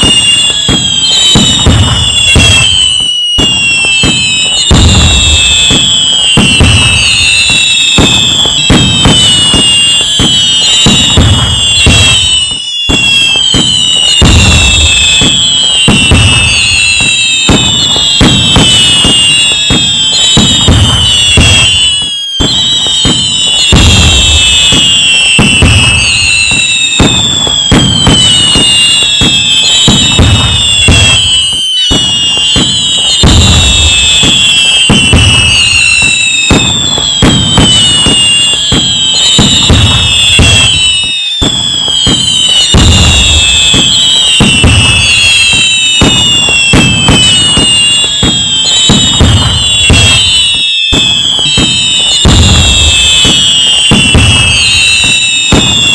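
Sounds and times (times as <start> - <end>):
firework bangs and crackles: 0.0 - 55.9
whistling firework shells: 0.0 - 55.9.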